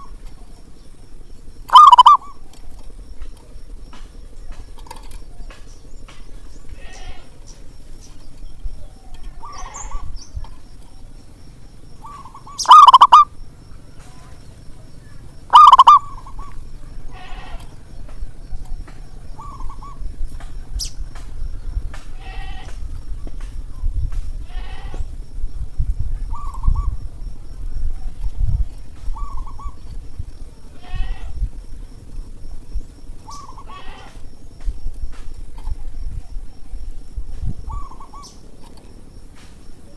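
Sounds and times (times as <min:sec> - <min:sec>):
doves cooing: 0:00.0 - 0:34.6, 0:35.4 - 0:39.9.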